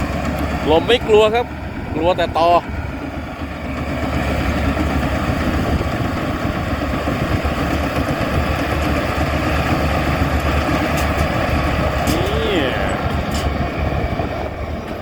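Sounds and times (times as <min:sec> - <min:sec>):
diesel engine droning: 0:00.0 - 0:15.0
machinery noise: 0:00.0 - 0:15.0.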